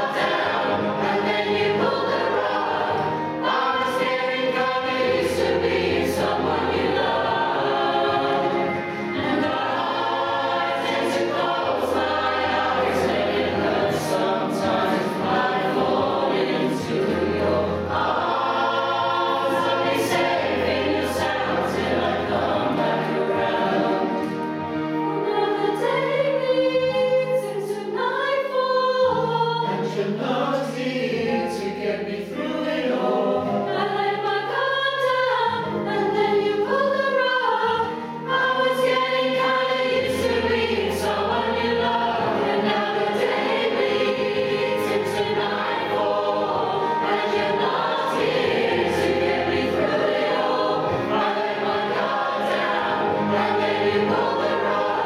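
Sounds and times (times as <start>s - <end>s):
recorded backing track: 0.0s - 28.1s, 29.2s - 55.0s
choir singing in harmony: 0.0s - 55.0s.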